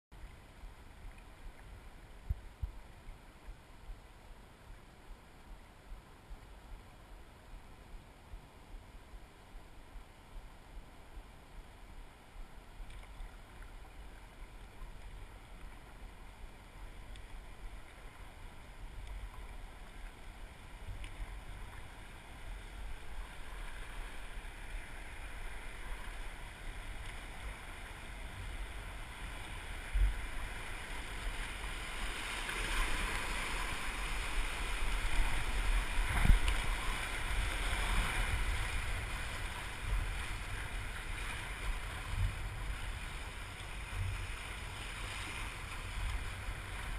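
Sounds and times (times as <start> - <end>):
wind rumble on microphone: 0.2 - 46.9.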